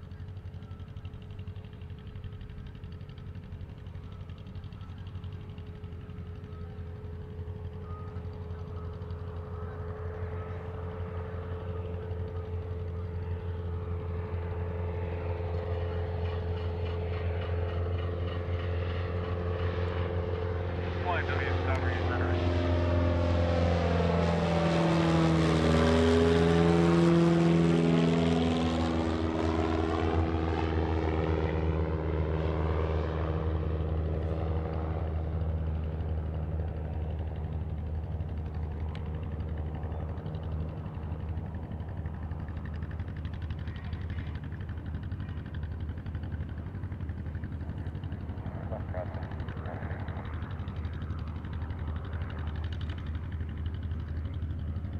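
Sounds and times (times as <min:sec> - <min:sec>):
propeller plane droning: 0:00.0 - 0:54.9.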